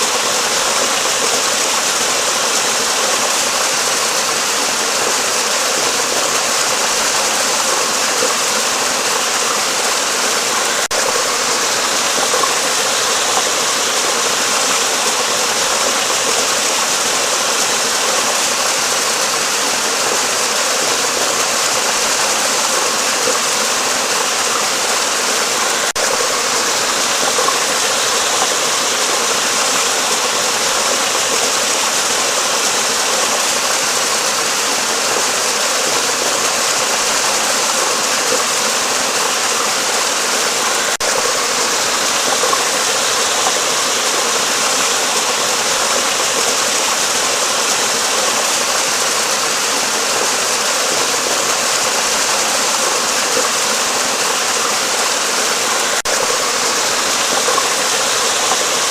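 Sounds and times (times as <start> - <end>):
water rushing under a bridge: 0.0 - 58.9.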